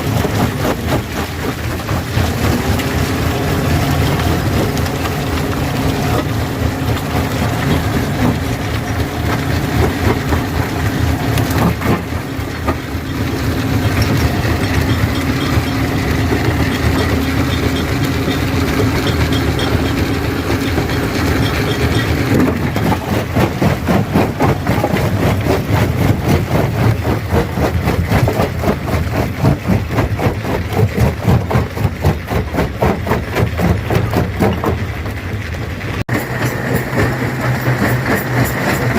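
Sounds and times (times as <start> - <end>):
stone crusher crushing rock: 0.0 - 38.9.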